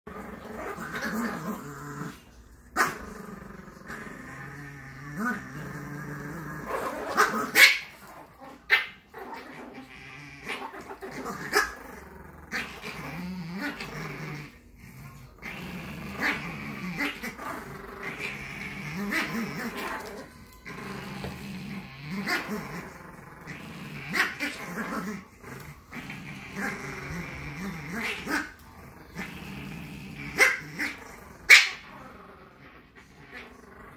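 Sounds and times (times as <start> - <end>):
small dogs play-growling: 0.1 - 33.9.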